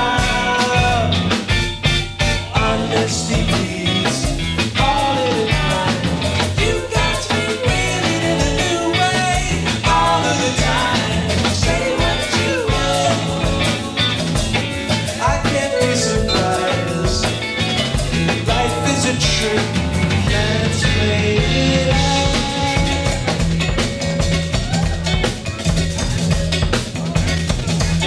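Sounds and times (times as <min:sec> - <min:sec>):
drum kit and bass beat: 0:00.0 - 0:28.0
rock band melody line: 0:00.0 - 0:28.0.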